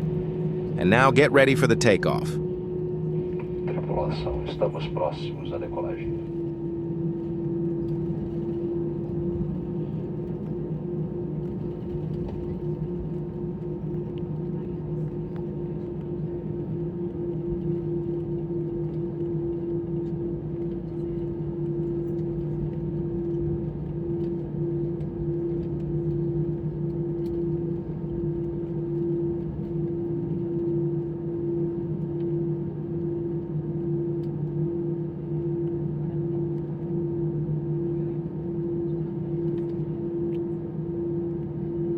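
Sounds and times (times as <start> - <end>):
jet engine drone in cabin: 0.0 - 41.9.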